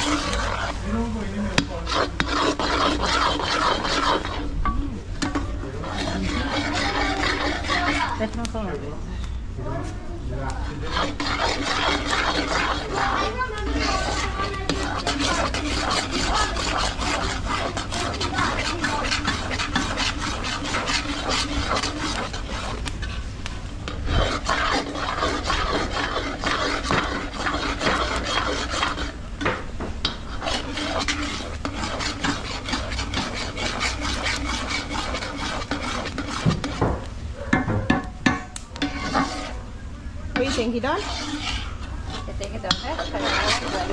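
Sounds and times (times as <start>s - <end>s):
spoon scraping bottom of pot: 0.0s - 0.9s, 1.5s - 8.4s, 10.6s - 23.2s, 23.8s - 39.6s, 40.3s - 43.9s.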